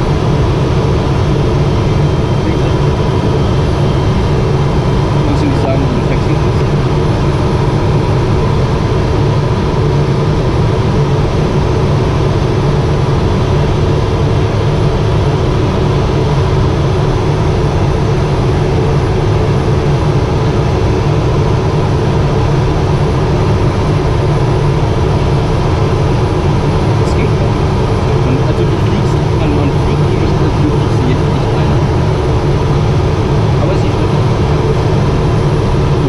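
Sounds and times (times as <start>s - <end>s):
turboprop engine and propeller drone: 0.0s - 36.0s.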